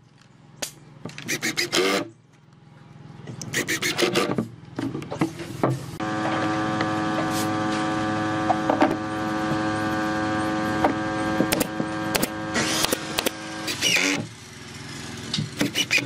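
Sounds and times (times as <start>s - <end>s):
electrical motor hum: 1.3s - 16.0s.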